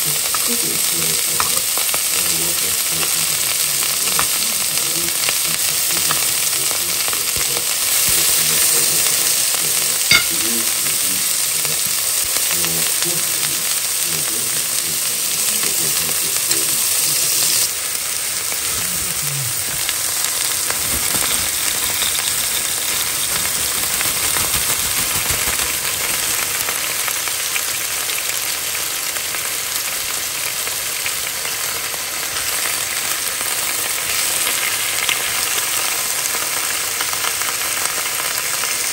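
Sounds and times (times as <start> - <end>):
steak sizzling in a pan: 0.0 - 38.9.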